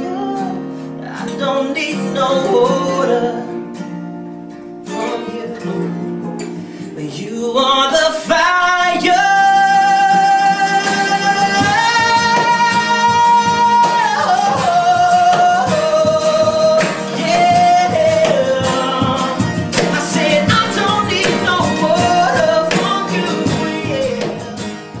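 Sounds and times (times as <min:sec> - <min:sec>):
man singing: 0:00.0 - 0:03.7, 0:04.9 - 0:24.8
strummed acoustic guitars: 0:00.0 - 0:25.0.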